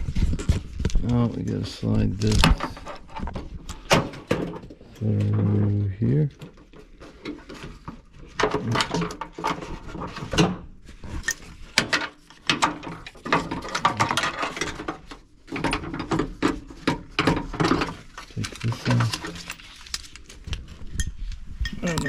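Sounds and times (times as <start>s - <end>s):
metal and plastic parts clattering: 2.2s - 5.6s, 6.3s - 21.1s.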